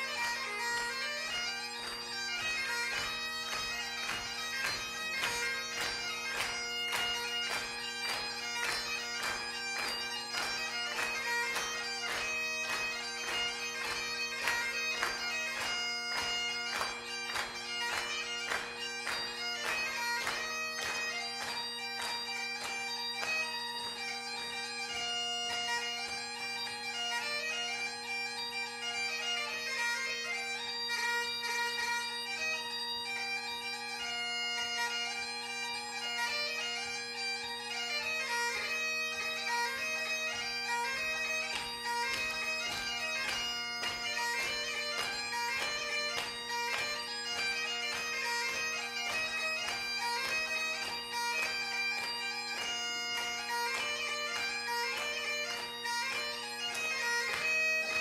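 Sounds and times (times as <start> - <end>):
bagpipe chanter tune: 0.0 - 58.0
bagpipe drones: 0.0 - 58.0.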